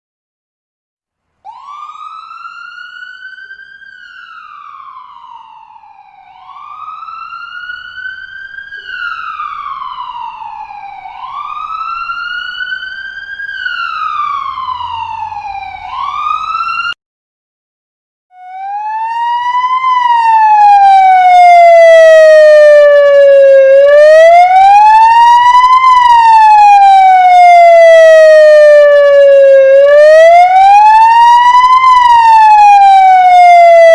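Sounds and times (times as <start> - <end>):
emergency vehicle siren wailing: 1.4 - 17.0, 18.4 - 33.9
lower-pitched siren wailing: 1.4 - 17.0, 18.3 - 33.9.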